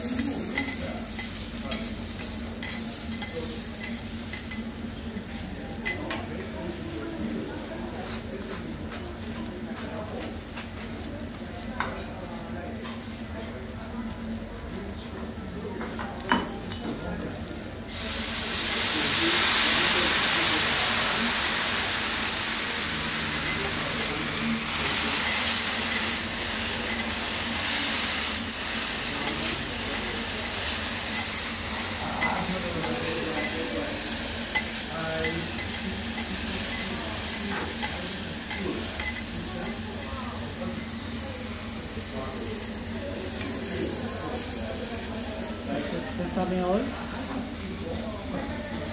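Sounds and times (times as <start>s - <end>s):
bean sprouts sizzling on a griddle: 0.0s - 48.9s.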